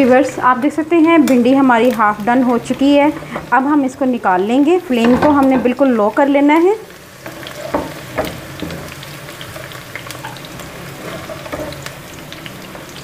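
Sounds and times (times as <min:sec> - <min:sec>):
okra sizzling in hot oil: 0:00.0 - 0:13.0.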